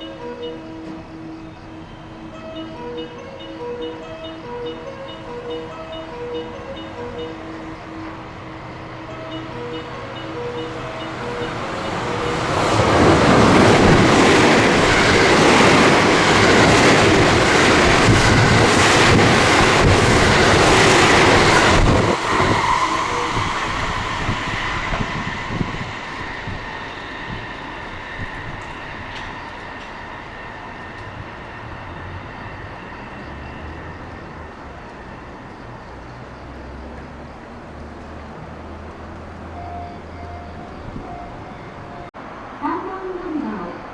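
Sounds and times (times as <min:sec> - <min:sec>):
train wheels rumbling on rails: 0:05.2 - 0:42.1.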